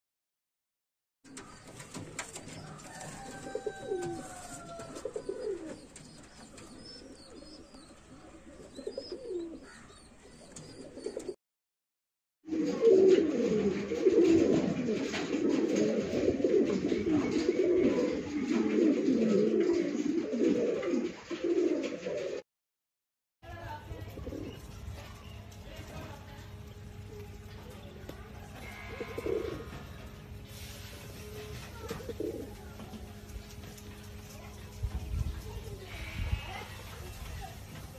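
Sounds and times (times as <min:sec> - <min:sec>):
pigeons cooing: 0:01.3 - 0:11.4, 0:12.5 - 0:22.4, 0:24.0 - 0:26.2, 0:26.8 - 0:37.9.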